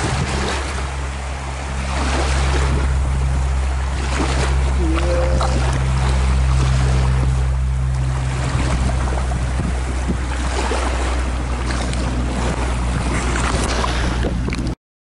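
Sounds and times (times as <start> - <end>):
wind on microphone: 0.0 - 14.7
small waves lapping on shore: 0.0 - 14.8
steady low hum: 0.2 - 14.7.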